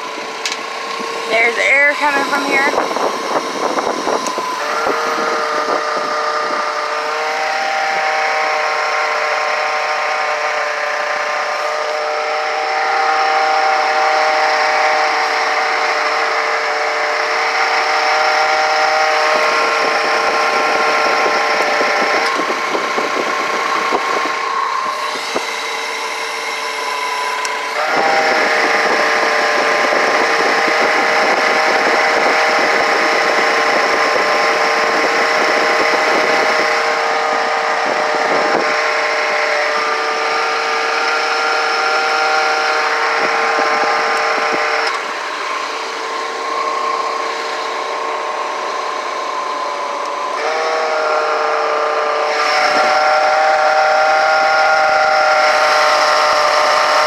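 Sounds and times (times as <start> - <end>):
car engine whining: 0.0 - 57.0.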